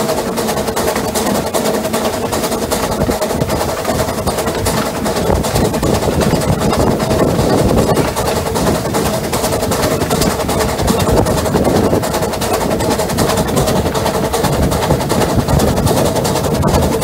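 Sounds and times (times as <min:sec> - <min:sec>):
locomotive engine noise: 0:00.0 - 0:17.0
wheels clattering on track: 0:00.0 - 0:17.0.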